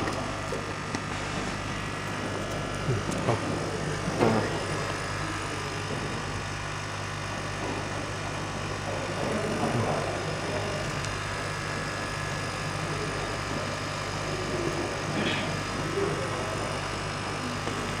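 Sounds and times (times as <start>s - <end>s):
exhaust fan hum: 0.0s - 18.0s.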